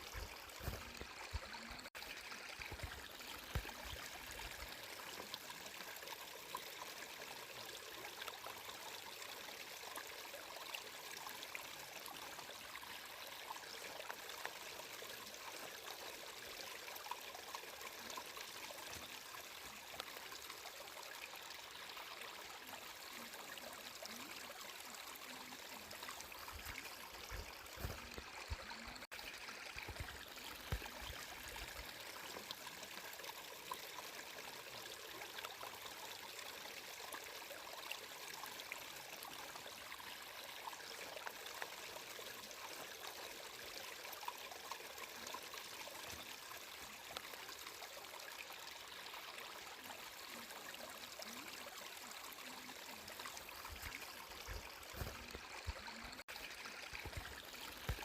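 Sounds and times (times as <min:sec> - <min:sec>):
flowing water trickling: 0:00.0 - 0:58.0.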